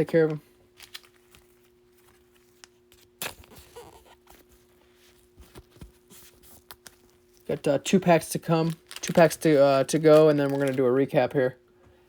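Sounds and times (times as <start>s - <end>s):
card and plastic rustling: 0.0s - 11.3s
faint steady hum: 0.0s - 12.0s.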